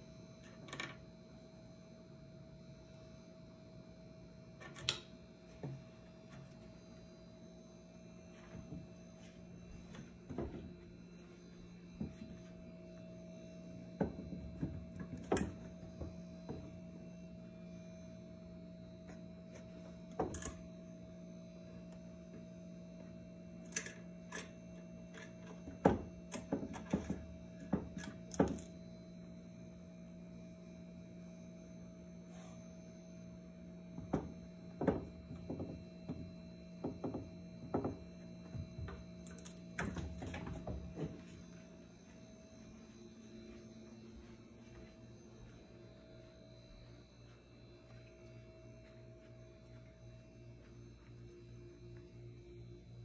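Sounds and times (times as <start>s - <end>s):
electrical hum: 0.0s - 53.0s.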